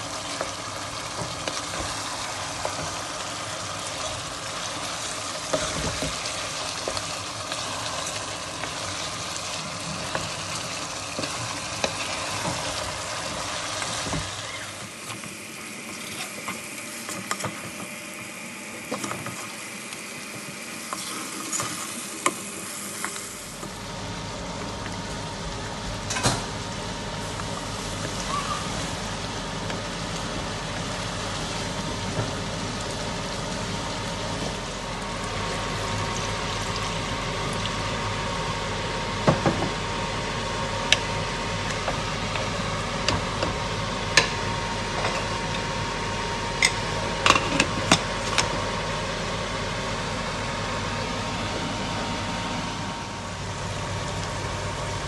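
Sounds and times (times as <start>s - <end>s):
meat and onions sizzling in a pot: 0.0s - 55.0s.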